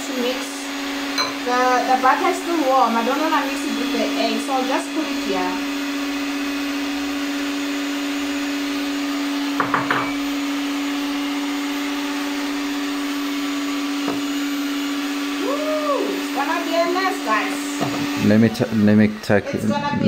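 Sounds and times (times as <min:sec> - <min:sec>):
electric hand mixer running: 0:00.0 - 0:20.0.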